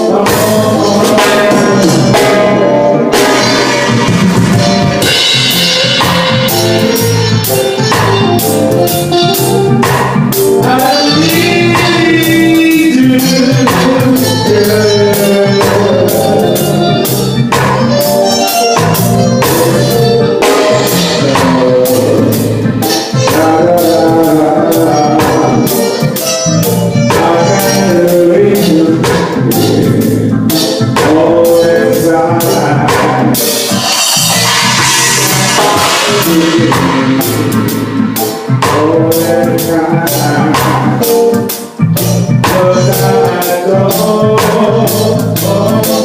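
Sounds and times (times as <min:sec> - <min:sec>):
live band music: 0:00.0 - 0:46.0
person singing: 0:00.0 - 0:46.0.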